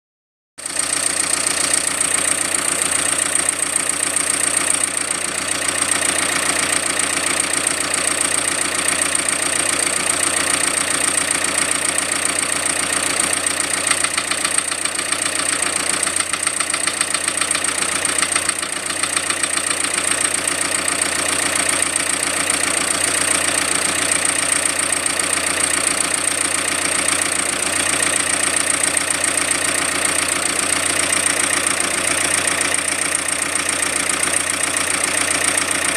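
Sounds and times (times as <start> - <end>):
car engine idling with knocking: 0.6 - 35.9.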